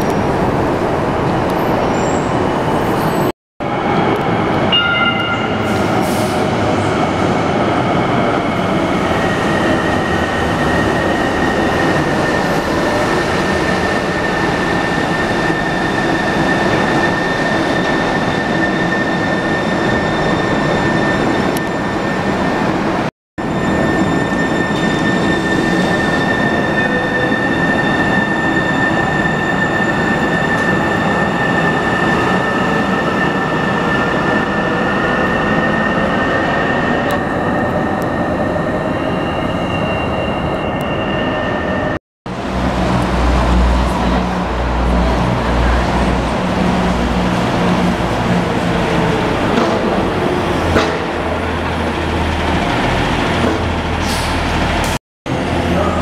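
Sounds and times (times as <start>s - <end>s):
train rumbling in a tunnel: 0.0s - 56.0s.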